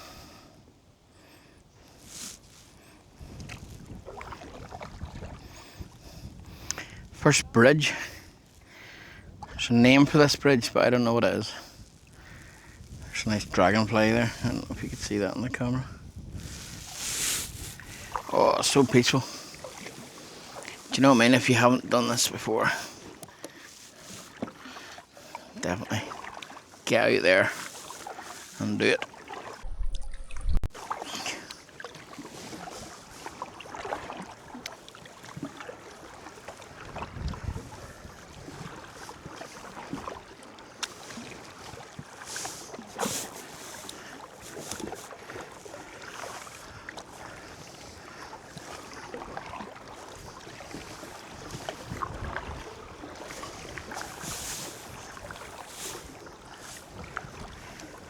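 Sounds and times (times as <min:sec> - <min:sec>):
paddle blades splashing water: 0:01.1 - 0:58.0
water running off paddle: 0:01.8 - 0:58.0.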